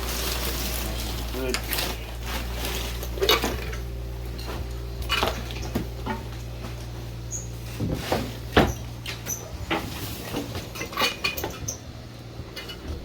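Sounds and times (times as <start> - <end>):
construction knocks and clatters: 0.0 - 13.0
steady low hum: 0.0 - 13.0.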